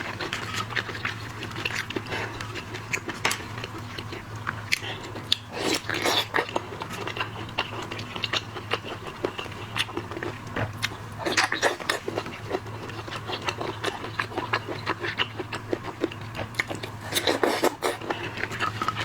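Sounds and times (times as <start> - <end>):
chewing and shell cracking: 0.0 - 19.0
steady low hum: 0.0 - 19.0.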